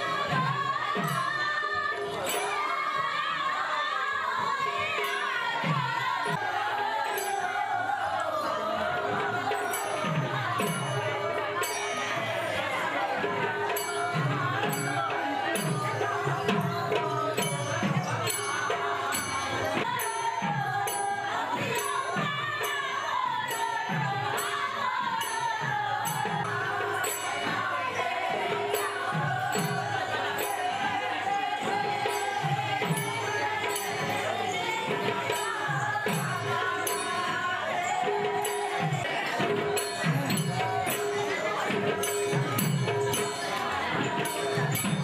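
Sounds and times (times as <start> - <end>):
voices singing: 0.0 - 45.0.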